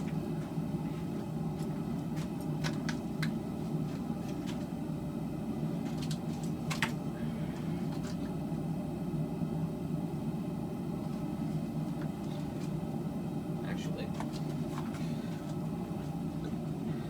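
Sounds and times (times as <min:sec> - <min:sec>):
gas forge burner rushing: 0:00.0 - 0:17.0.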